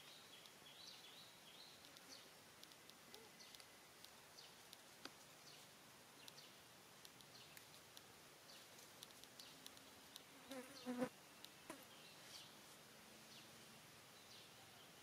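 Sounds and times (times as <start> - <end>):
faint high chirps and clicks: 0.0 - 12.6.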